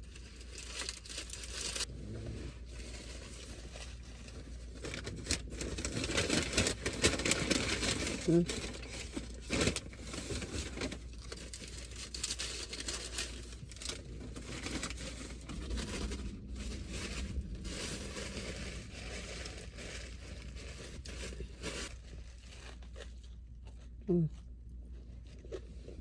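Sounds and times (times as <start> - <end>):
food packaging crinkling: 0.0 - 24.0.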